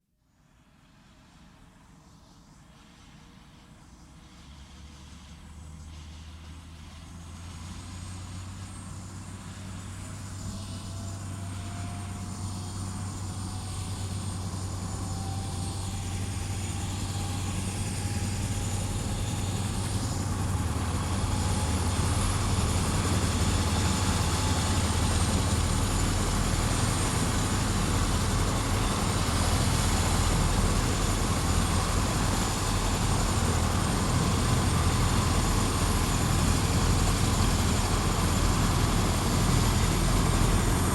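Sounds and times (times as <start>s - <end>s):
helicopter rotor and engine: 0.6s - 40.9s
rising turbine whine: 4.0s - 40.9s.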